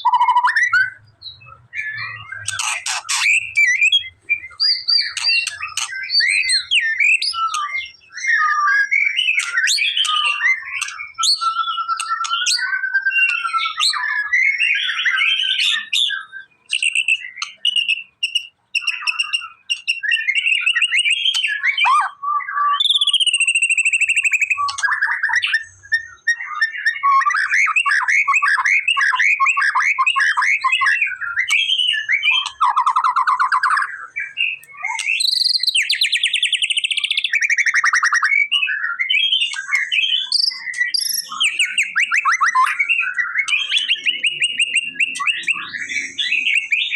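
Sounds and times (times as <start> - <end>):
bird song with whistles and trills: 0.0 - 46.9.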